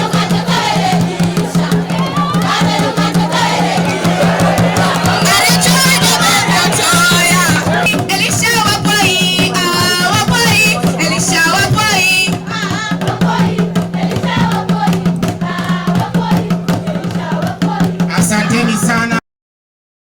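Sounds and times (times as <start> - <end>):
drums and rattles beat: 0.0 - 19.2
singing: 0.0 - 19.2.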